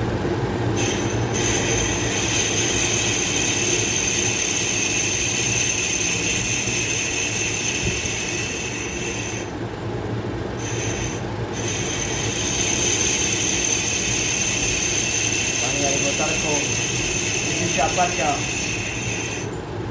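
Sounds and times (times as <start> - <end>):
lathe motor hum: 0.0 - 19.9
lathe cutting whine: 0.6 - 9.7, 10.4 - 19.8.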